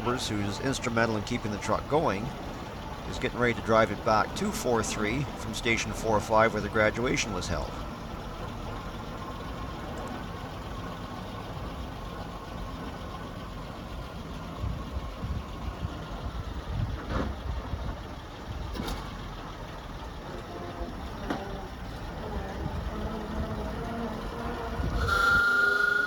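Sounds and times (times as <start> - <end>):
engine idling with uneven rumble: 0.0 - 25.3.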